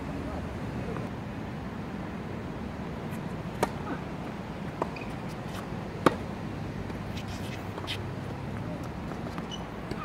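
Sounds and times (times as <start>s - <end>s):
steady outdoor hum: 0.0s - 10.0s.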